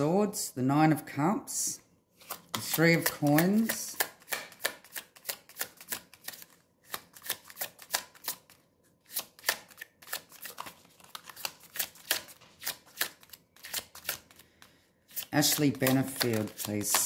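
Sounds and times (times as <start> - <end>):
cards being shuffled: 2.2 - 17.0.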